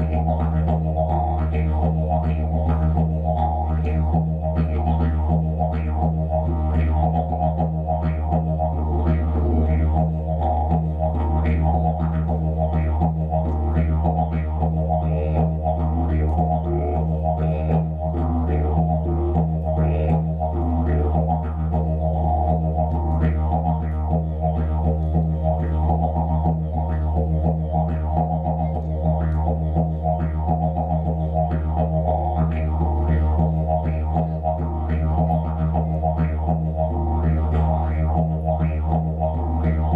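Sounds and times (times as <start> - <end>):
didgeridoo drone: 0.0 - 39.9.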